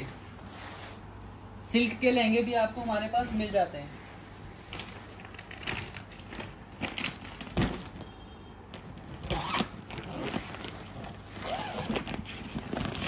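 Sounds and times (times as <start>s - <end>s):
stiff fabric rustling: 0.0s - 8.1s, 8.8s - 13.0s.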